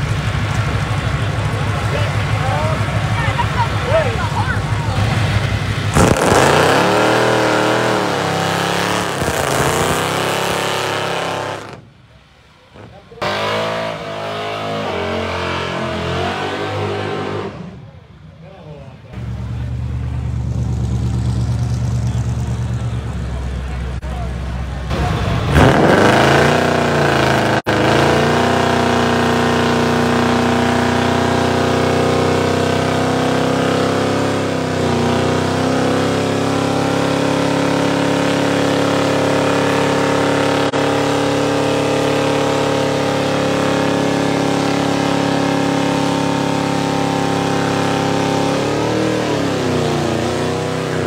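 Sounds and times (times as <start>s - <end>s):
car engine revving high: 0.0s - 11.9s, 12.8s - 17.8s, 24.9s - 51.0s.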